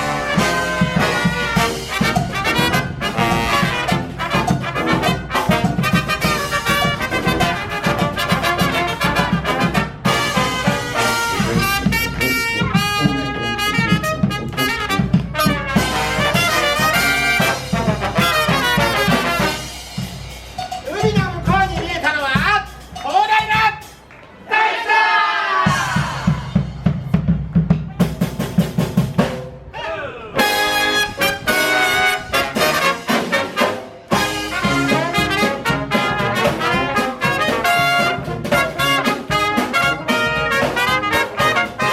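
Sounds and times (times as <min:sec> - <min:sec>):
snare and bass drum beat: 0:00.0 - 0:24.1, 0:31.4 - 0:41.9
brass band playing upbeat tune: 0:00.0 - 0:27.2, 0:28.0 - 0:41.9.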